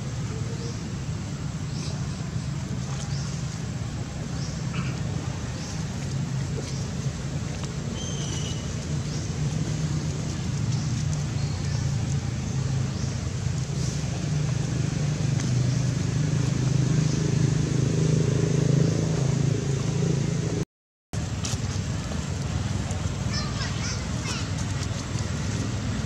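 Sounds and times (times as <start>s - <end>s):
low engine-like hum: 0.0s - 20.6s, 21.2s - 26.0s.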